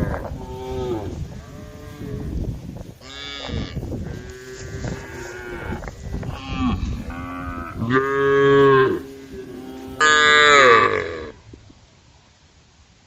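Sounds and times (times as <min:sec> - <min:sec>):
cows mooing: 0:00.0 - 0:02.4, 0:03.0 - 0:11.4.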